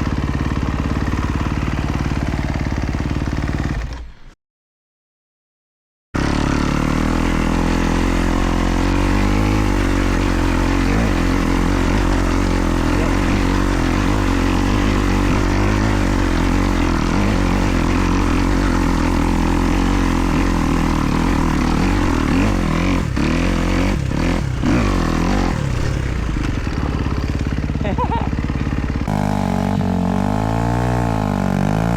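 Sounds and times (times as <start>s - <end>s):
motocross engine revving: 6.2s - 31.9s.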